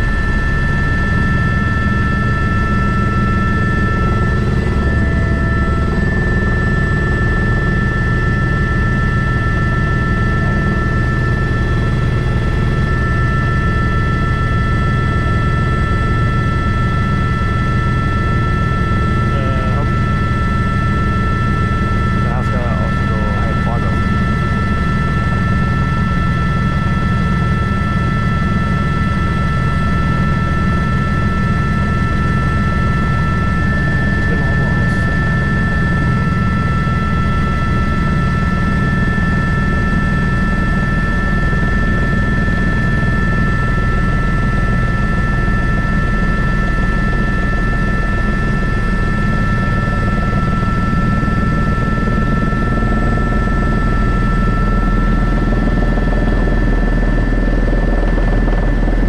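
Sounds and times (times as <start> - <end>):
helicopter rotor beat: 0.0 - 59.0
high turbine whine: 0.0 - 59.0.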